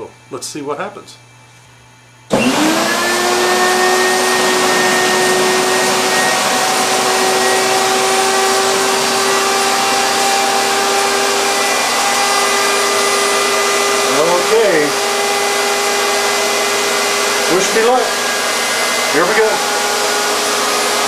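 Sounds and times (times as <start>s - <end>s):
spindle motor whine: 2.3s - 21.0s.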